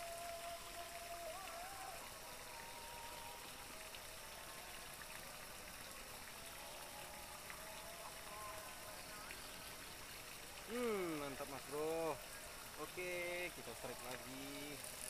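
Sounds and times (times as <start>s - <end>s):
faint stream trickling: 0.0s - 15.0s.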